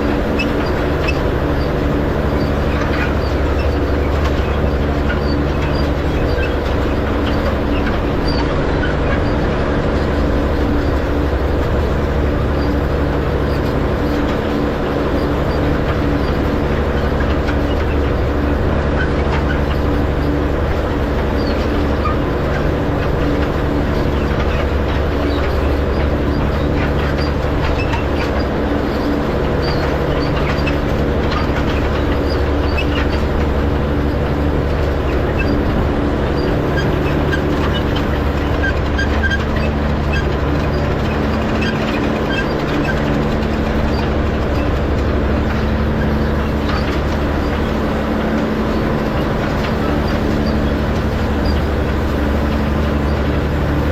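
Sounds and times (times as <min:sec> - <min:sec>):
hay rake clicking and rattling: 0:00.0 - 0:53.9
tractor engine running: 0:00.0 - 0:53.9.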